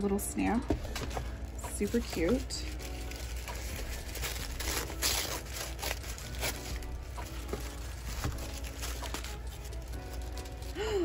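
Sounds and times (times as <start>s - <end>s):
tissue paper rustling and crinkling: 0.7s - 11.0s.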